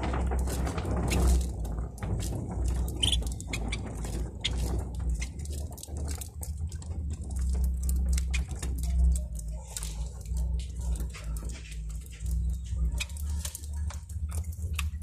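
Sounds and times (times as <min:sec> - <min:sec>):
birds pecking seed clicks: 0:00.0 - 0:15.0
steady low hum: 0:00.0 - 0:15.0.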